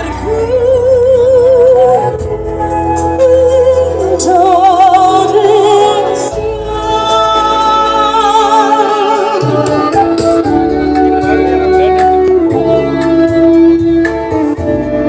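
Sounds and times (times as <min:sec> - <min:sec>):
person singing with vibrato: 0:00.0 - 0:13.2
musical accompaniment: 0:00.0 - 0:15.0.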